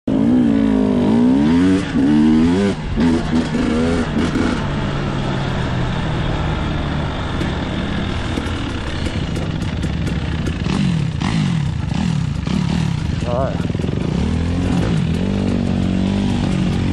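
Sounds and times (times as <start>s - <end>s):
dirt bike engine revving: 0.1s - 16.9s.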